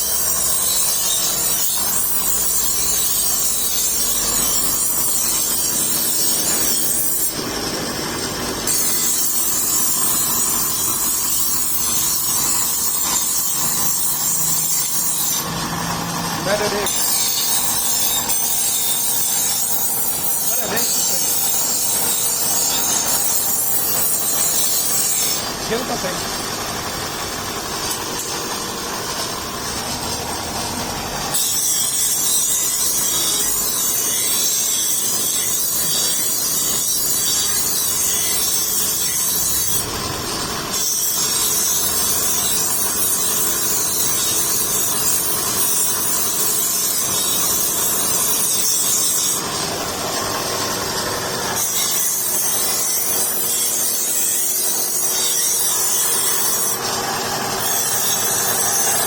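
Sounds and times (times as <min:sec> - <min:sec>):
power tool grinding metal: 0:00.0 - 0:59.0.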